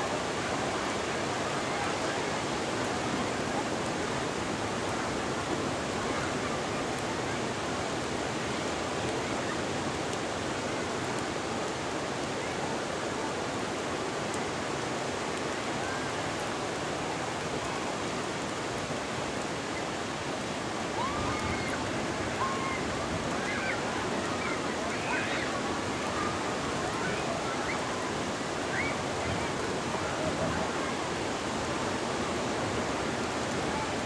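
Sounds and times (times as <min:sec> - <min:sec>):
ocean surf washing on shore: 0:00.0 - 0:34.0.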